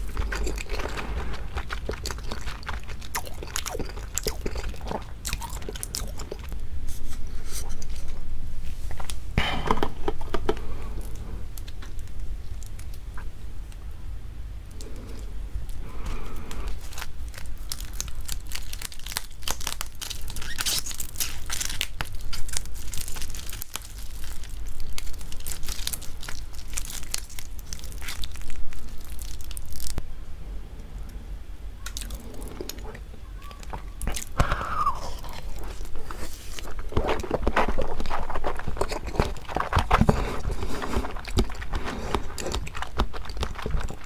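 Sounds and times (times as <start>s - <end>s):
crunching and wet chewing: 0.0s - 8.2s, 8.9s - 13.8s, 14.6s - 30.0s, 31.8s - 44.0s.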